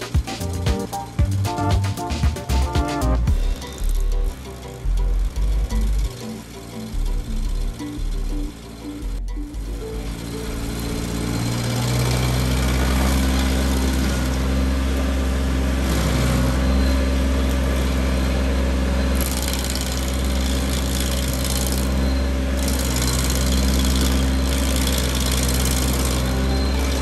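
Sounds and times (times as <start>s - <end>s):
engine hum: 0.0s - 27.0s
stump grinder grinding: 0.0s - 27.0s.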